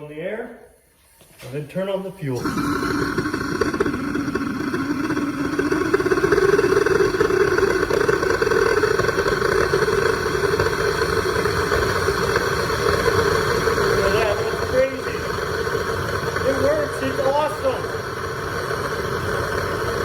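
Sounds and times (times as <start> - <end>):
jet engine rushing and humming: 2.4 - 20.0.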